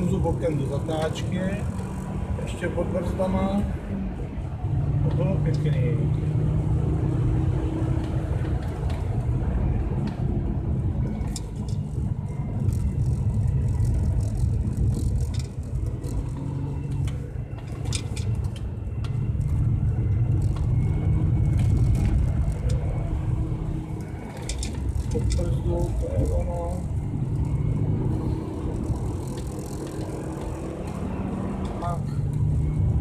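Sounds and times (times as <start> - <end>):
car engine running hard: 0.0 - 33.0.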